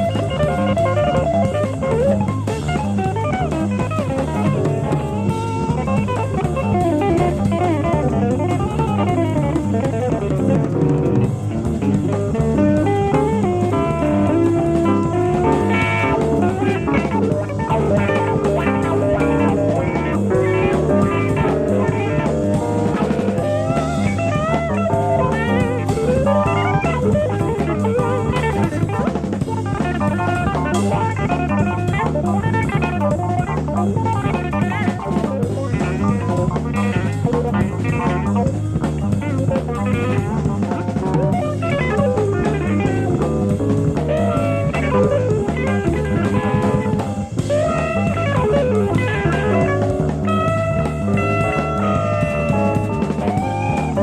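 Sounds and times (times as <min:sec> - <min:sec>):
bass and drum groove: 0:00.0 - 0:54.0
electric guitar melody: 0:00.0 - 0:54.0.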